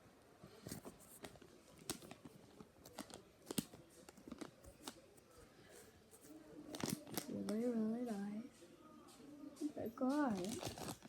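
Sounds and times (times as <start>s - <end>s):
faint crinkles and crackles: 0.2s - 11.0s.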